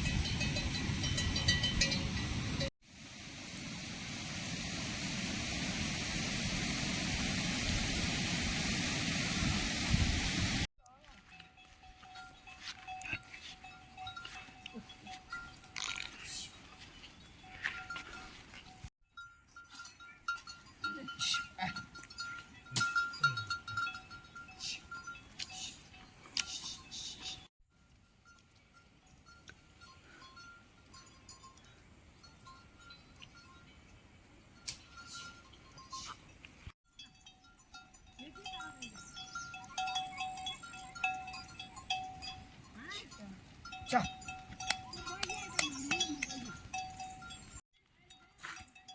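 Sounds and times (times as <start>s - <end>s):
wind: 0.0s - 48.9s.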